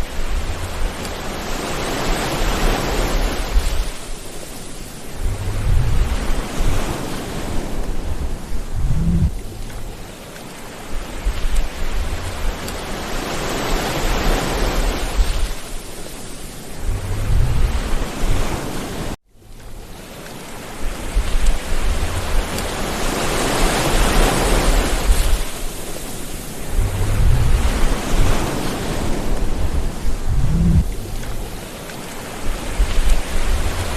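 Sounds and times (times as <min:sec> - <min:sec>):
sea waves washing: 0:00.0 - 0:33.9
wind rumbling on microphone: 0:00.0 - 0:33.9.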